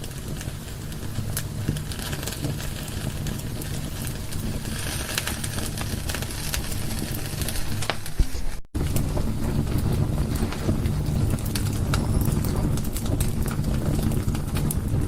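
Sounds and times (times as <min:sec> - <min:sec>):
low rumble of flames: 0:00.0 - 0:15.0
sharp pops of fire: 0:00.0 - 0:15.0
wood fire crackling: 0:00.0 - 0:15.0.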